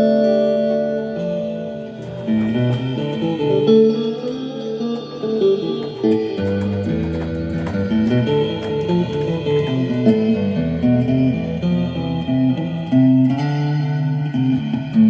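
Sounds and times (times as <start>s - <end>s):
improvised guitar playing: 0.0s - 15.0s.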